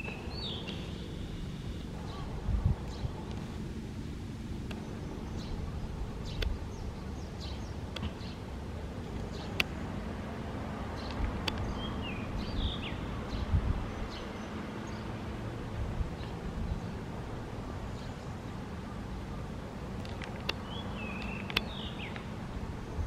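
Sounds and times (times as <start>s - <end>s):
distant thrush singing: 0.0s - 23.0s
low background rumble: 0.0s - 23.0s.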